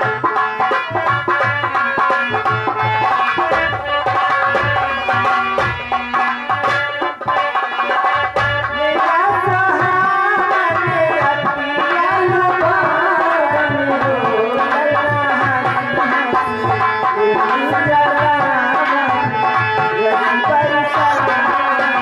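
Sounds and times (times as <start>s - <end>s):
hand drum rhythm: 0.0s - 22.0s.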